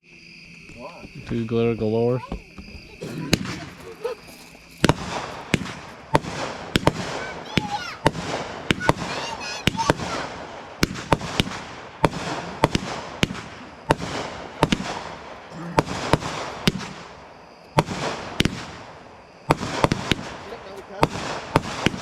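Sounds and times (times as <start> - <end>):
fireworks bangs with echo: 2.2 - 22.0.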